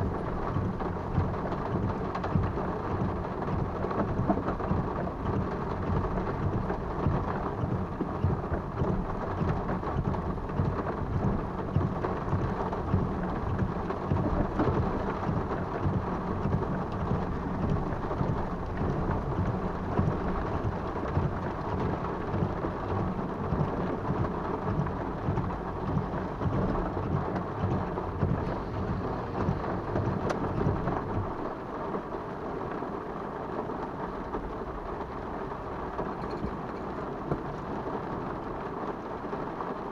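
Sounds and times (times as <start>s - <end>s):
heavy rain on vehicle roof: 0.0s - 39.9s.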